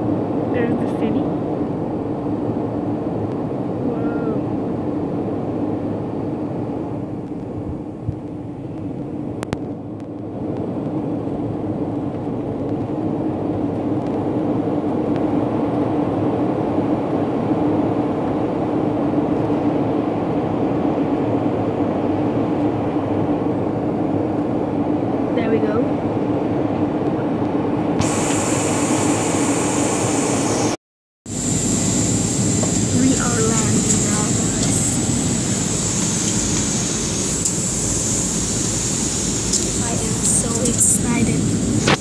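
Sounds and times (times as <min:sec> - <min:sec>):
airliner cabin drone: 0:00.0 - 0:42.0.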